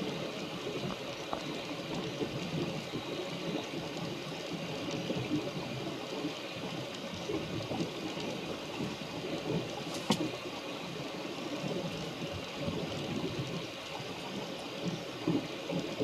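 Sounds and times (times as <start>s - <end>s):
rain and rushing water: 0.0s - 16.0s.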